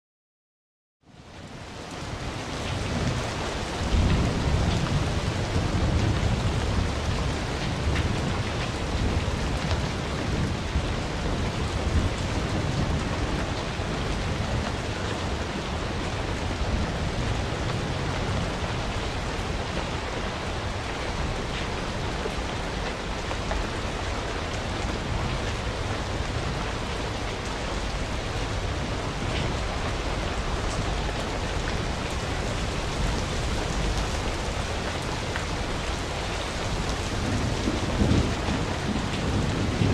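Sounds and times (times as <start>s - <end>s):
low rumble of flame: 1.1s - 39.9s.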